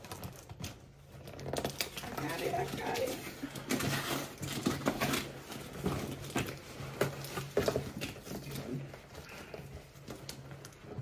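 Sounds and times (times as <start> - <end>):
packing tape torn off cardboard: 0.0 - 11.0.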